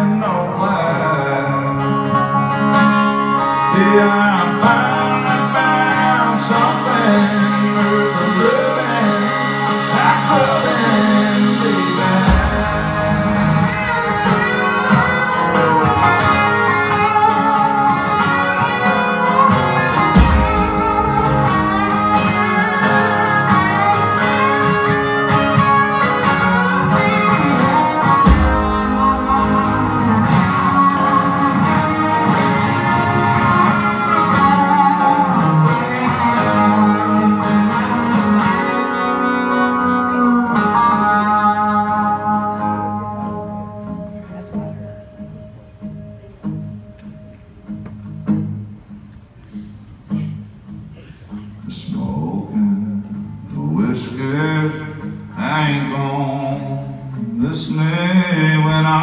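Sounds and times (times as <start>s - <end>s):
country-rock band playing: 0.0s - 59.0s.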